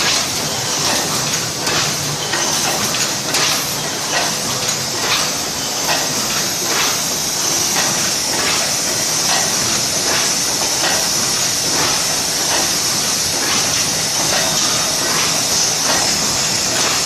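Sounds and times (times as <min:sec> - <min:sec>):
machine hissing: 0:00.0 - 0:17.0.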